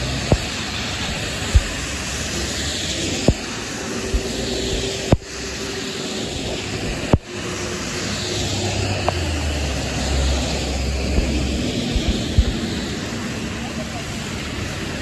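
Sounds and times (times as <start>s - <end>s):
bus engine rumble: 0.0s - 15.0s
tyres hissing on wet road: 0.0s - 15.0s.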